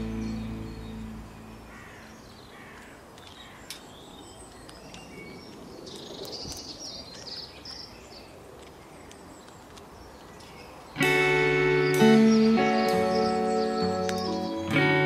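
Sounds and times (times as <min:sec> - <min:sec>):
faint outdoor ambience: 0:00.0 - 0:15.0
small birds chirping: 0:00.0 - 0:15.0.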